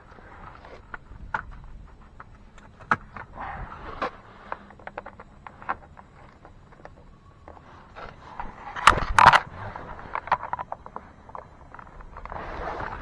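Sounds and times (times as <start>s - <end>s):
light scraping: 0.0s - 13.0s.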